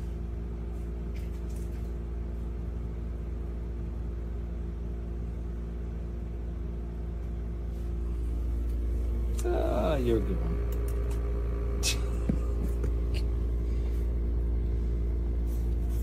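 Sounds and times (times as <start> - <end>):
low mechanical hum with tones: 0.0 - 16.0.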